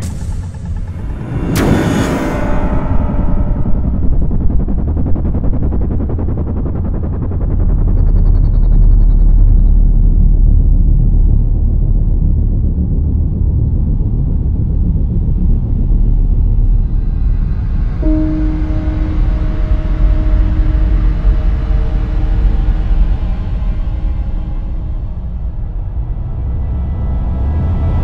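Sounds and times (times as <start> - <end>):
deep low rumbling drone: 0.0 - 28.0.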